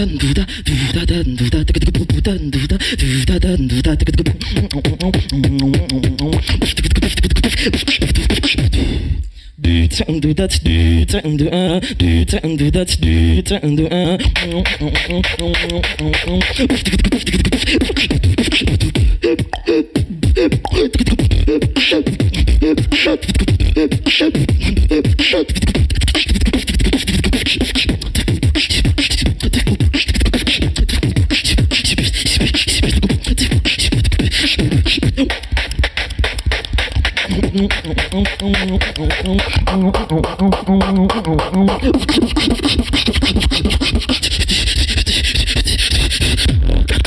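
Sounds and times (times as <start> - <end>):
person beatboxing: 0.0 - 47.0.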